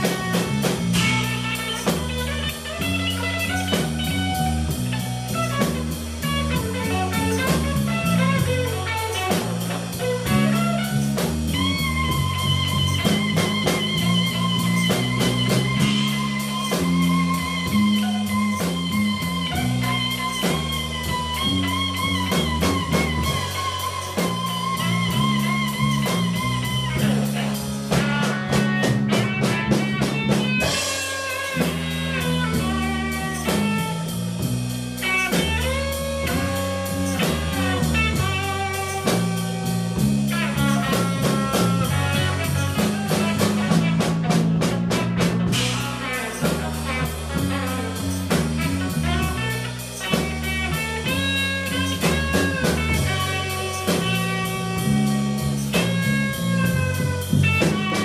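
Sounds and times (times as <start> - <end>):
blues band playing: 0.0 - 58.0
electric guitar lead: 0.0 - 58.0.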